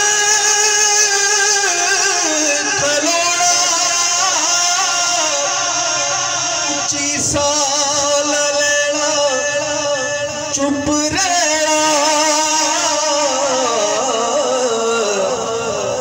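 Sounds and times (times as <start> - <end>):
man singing long wavering notes: 0.0 - 16.0.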